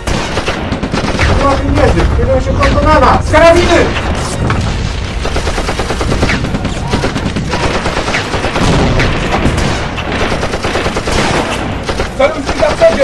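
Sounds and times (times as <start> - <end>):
rapid rifle gunfire: 0.0 - 13.0.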